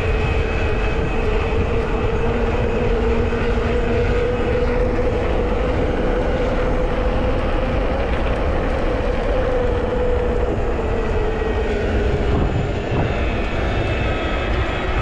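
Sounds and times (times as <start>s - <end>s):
electric bike motor whine: 0.0s - 15.0s
wind rushing over microphone: 0.0s - 15.0s.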